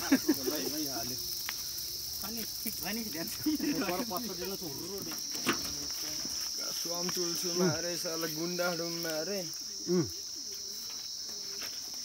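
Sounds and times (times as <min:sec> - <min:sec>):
people talking: 0:00.0 - 0:01.2, 0:02.2 - 0:11.4
high-pitched insect drone: 0:00.0 - 0:12.0.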